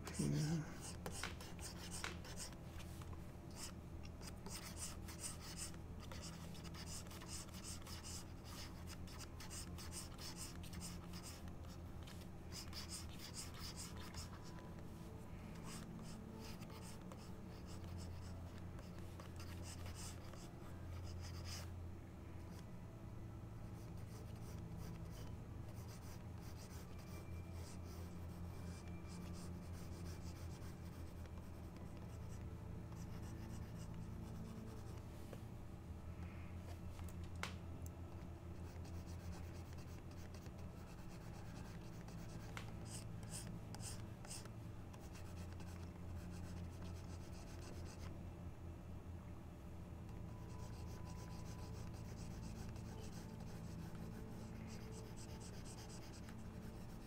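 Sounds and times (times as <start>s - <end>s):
steady low hum: 0.0s - 57.0s
stylus scratching on tablet: 0.1s - 15.0s, 15.6s - 21.7s, 23.7s - 35.0s, 38.5s - 48.1s, 50.3s - 57.0s.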